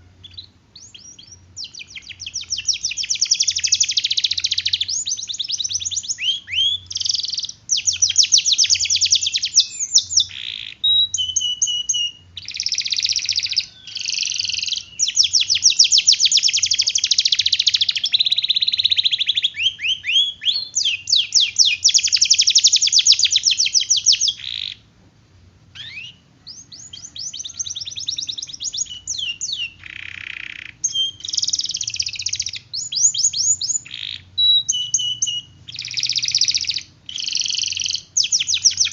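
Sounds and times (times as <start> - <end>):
canary singing trills: 0.0 - 24.9, 25.7 - 38.9.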